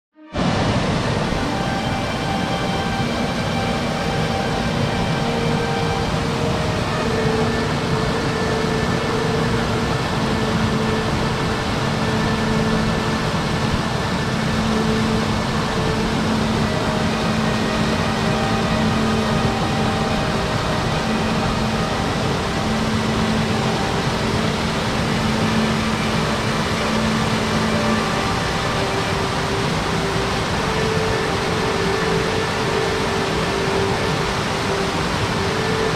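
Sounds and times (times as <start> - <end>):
faint sustained tones: 0.2 - 35.9
waterfall rushing over rocks: 0.2 - 35.9.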